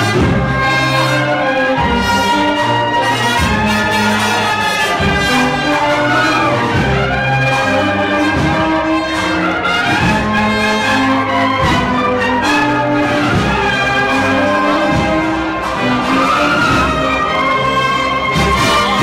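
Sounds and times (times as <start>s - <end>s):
bugles holding loud chords: 0.0s - 19.0s
marching drums: 0.0s - 19.0s.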